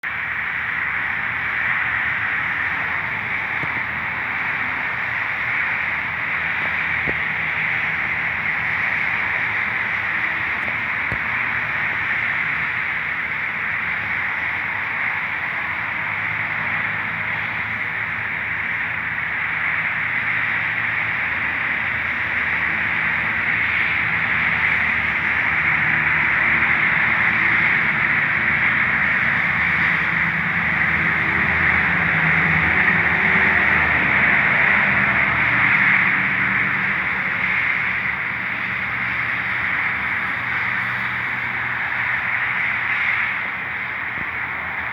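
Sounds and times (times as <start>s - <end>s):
low engine-like hum: 0.0s - 44.9s.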